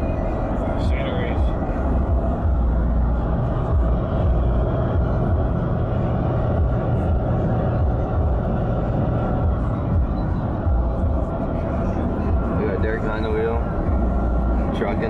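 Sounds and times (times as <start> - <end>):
road and engine rumble in cabin: 0.0 - 15.0.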